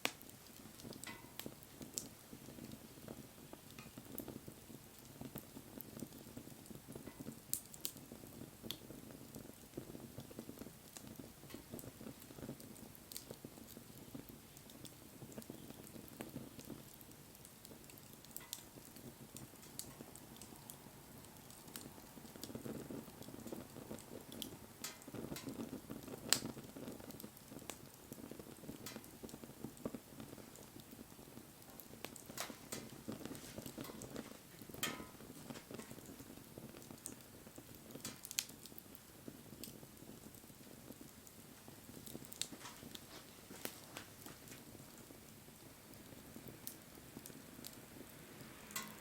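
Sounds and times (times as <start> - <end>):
bonfire flames rustling: 0.0 - 49.0
fire crackles and pops: 0.0 - 49.0.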